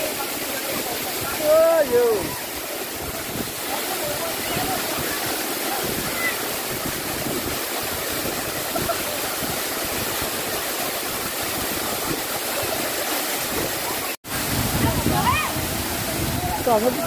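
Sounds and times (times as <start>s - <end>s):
waterfall pouring onto rock: 0.0s - 17.0s.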